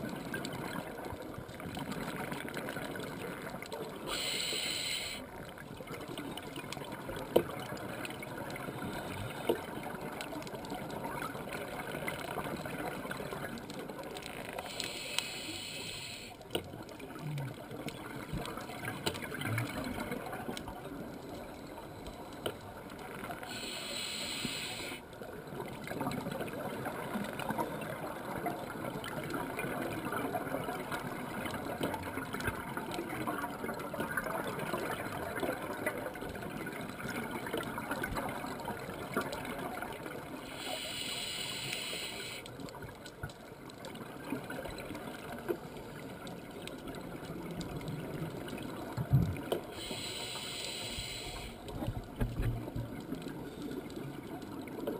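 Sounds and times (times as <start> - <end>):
underwater rush of water: 0.0 - 54.9.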